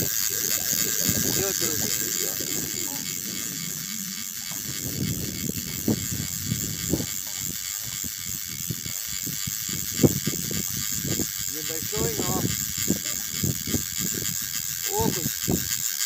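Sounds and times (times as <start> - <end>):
fishing reel ticking rattle: 0.0 - 16.0.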